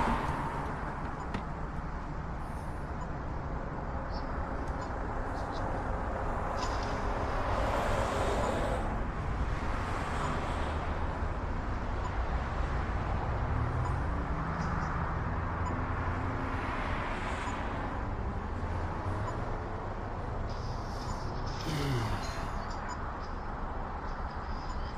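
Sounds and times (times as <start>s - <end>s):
road traffic noise: 0.0s - 24.9s
vehicles passing: 0.0s - 24.9s.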